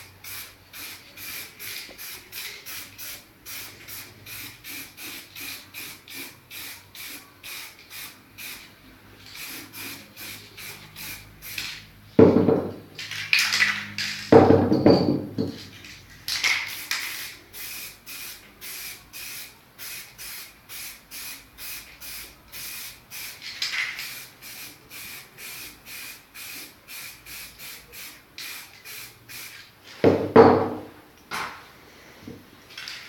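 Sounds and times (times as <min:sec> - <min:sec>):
spray paint can hissing bursts: 0:00.0 - 0:11.9, 0:13.0 - 0:14.4, 0:15.6 - 0:29.7.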